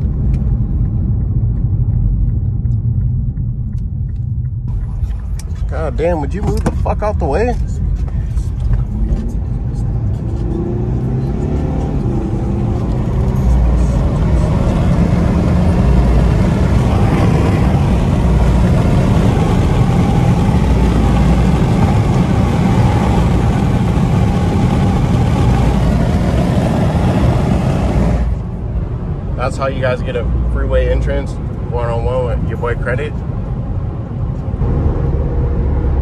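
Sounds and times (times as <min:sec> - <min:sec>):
car engine accelerating hard: 0:00.0 - 0:36.0
road and wind noise: 0:00.0 - 0:36.0.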